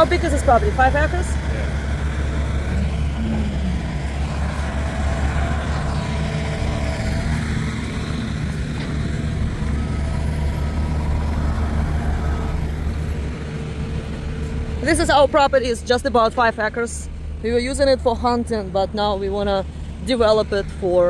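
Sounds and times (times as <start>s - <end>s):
heavy diesel machinery rumbling: 0.0s - 21.0s.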